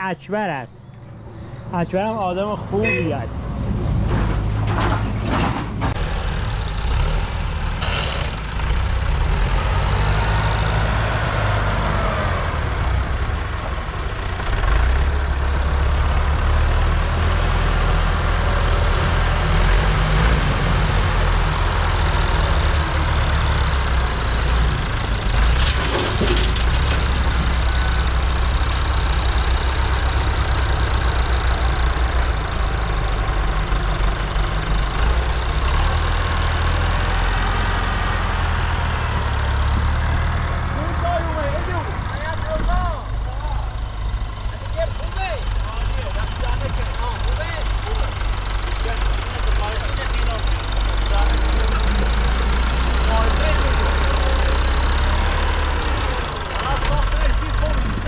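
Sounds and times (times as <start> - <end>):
tractor engine rumbling: 0.0 - 58.0.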